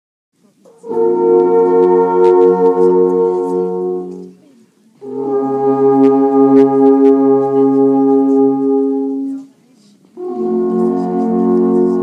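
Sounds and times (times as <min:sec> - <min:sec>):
alphorn playing long notes: 0:00.7 - 0:04.4, 0:05.0 - 0:09.5, 0:10.2 - 0:12.0.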